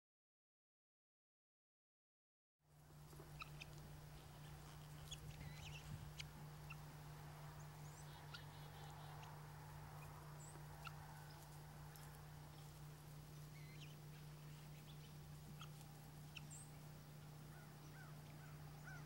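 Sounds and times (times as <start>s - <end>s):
steady low hum: 2.6s - 19.0s
guinea fowl chirps and peeps: 3.0s - 19.0s.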